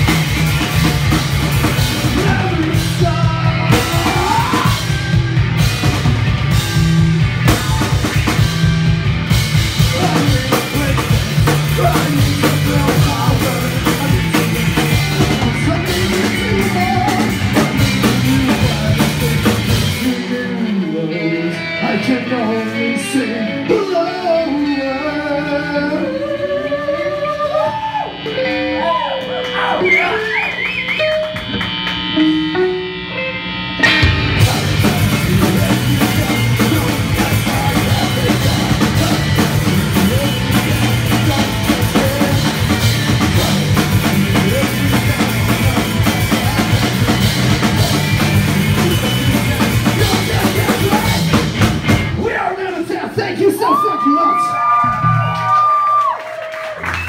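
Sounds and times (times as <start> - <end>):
electric guitar bending notes: 0.0 - 52.3
punk rock band playing live: 0.0 - 53.9.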